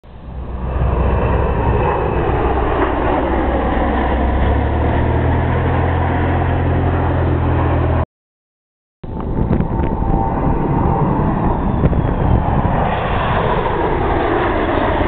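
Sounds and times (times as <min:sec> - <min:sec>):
deep rumble: 0:00.0 - 0:08.0, 0:09.0 - 0:15.0
jet engines roaring: 0:00.0 - 0:08.0, 0:09.0 - 0:15.0.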